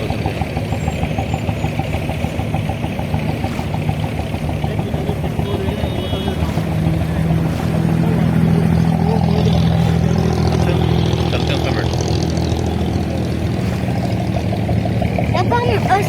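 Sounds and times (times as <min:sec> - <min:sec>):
boat diesel engine: 0:00.0 - 0:16.0.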